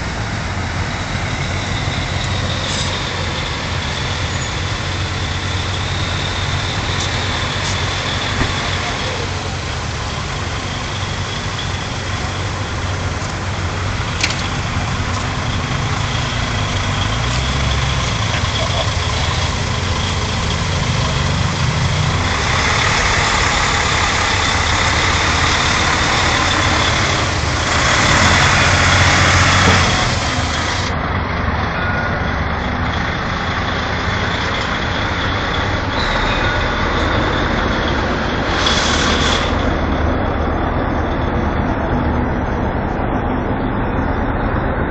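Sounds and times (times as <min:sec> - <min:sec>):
lorry diesel engines: 0:00.0 - 0:44.9
rush of noise: 0:00.0 - 0:44.9.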